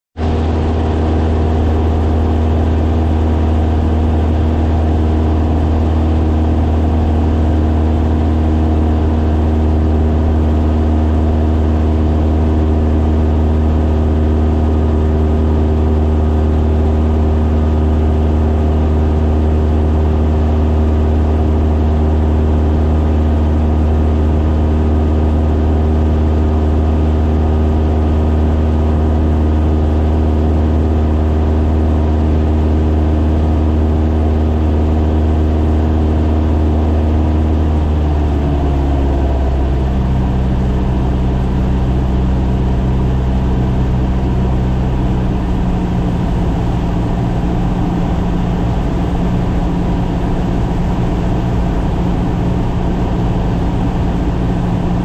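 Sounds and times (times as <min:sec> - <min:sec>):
light aircraft engine droning: 0:00.2 - 0:55.0.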